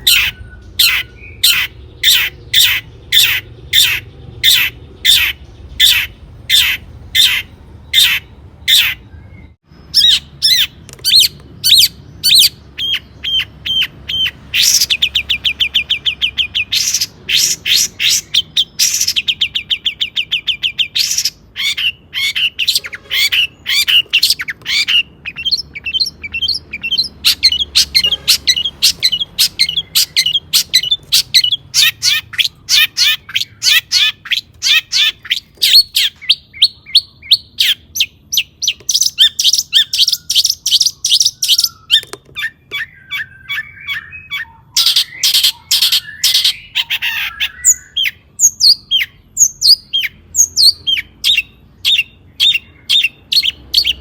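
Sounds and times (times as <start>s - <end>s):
shrike singing: 0.0s - 54.0s.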